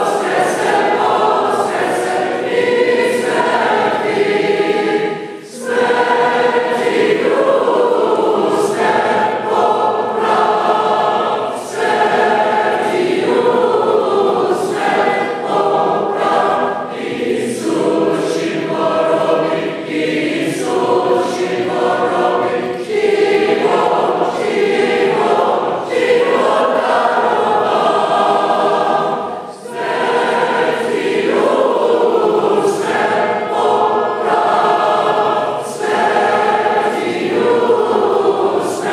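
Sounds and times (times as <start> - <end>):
choir singing a hymn unaccompanied: 0.0 - 38.9.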